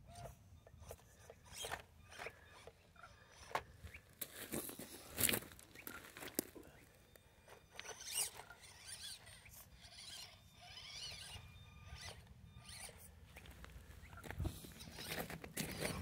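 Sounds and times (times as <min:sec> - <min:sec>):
small electric motor whine: 0:00.0 - 0:16.0.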